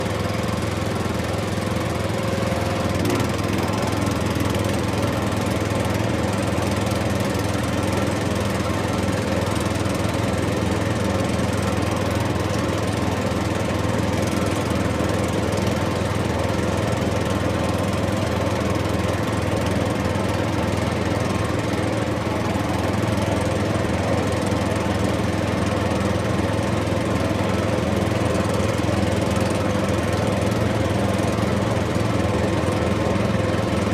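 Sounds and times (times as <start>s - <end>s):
diesel engine droning under load: 0.0s - 33.9s.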